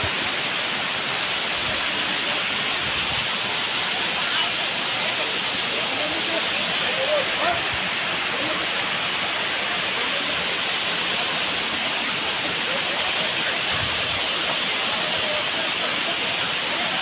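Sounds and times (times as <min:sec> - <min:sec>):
waterfall rushing: 0:00.0 - 0:17.0
faint voices: 0:01.3 - 0:17.0.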